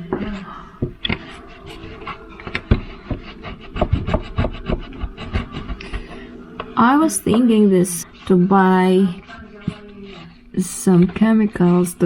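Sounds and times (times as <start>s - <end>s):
paper towel scrubbing a surface: 1.1s - 12.0s.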